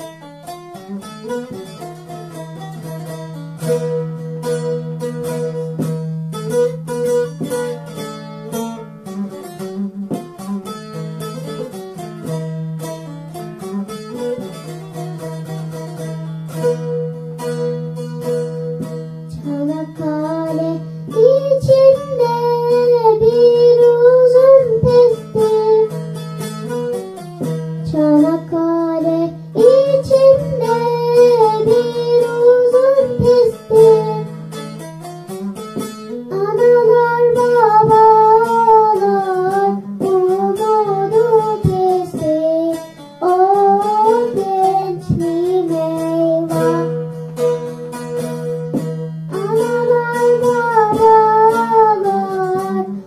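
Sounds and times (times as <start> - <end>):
girl singing folk song: 0.0 - 53.0
long-necked lute plucked: 0.0 - 53.0.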